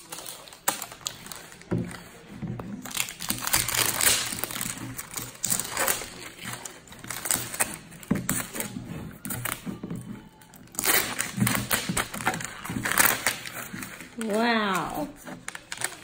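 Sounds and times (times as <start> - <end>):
plastic shrink-wrap crinkling: 0.0 - 16.0.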